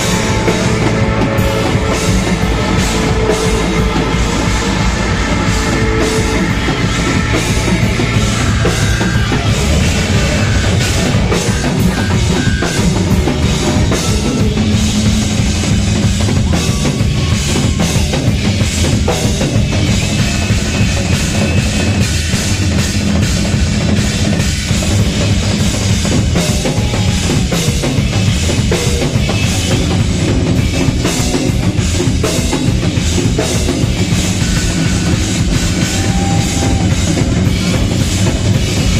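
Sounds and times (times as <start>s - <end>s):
bass drum: 0.0s - 38.9s
live rock band playing: 0.0s - 38.9s.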